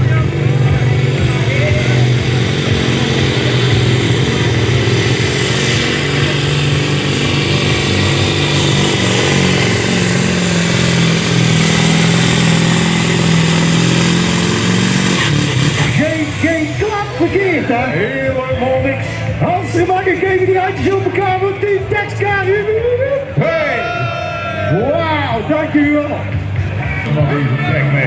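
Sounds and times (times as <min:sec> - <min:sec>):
diesel truck engine at full load: 0:00.0 - 0:28.0.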